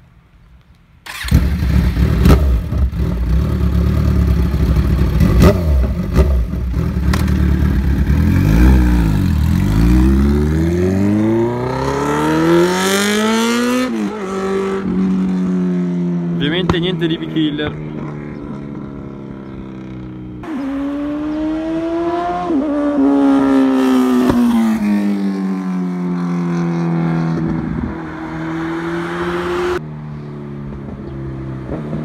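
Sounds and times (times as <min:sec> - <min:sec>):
motorcycle engine revving: 0:01.1 - 0:29.9.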